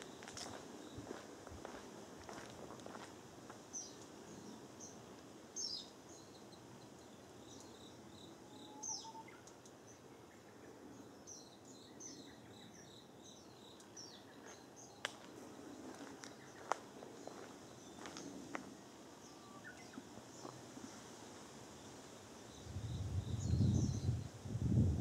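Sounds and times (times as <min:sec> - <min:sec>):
low outdoor hiss: 0:00.0 - 0:25.0
small birds chirping: 0:03.7 - 0:21.1, 0:21.7 - 0:24.4.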